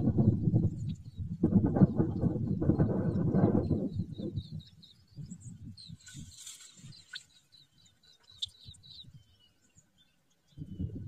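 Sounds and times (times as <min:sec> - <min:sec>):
small bird chirping: 0:00.2 - 0:11.0.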